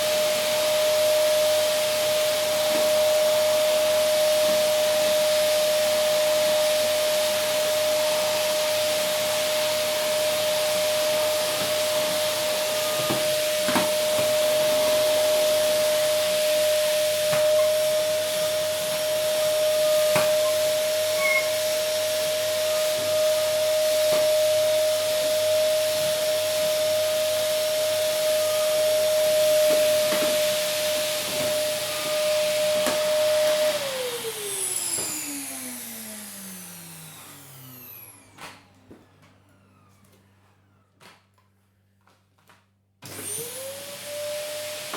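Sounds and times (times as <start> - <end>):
vacuum cleaner running: 0.0 - 41.4, 43.0 - 44.9.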